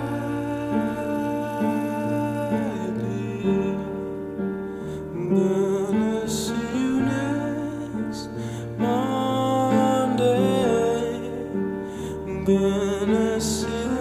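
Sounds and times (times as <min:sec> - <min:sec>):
man singing: 0:00.0 - 0:14.0
upright piano: 0:00.0 - 0:14.0.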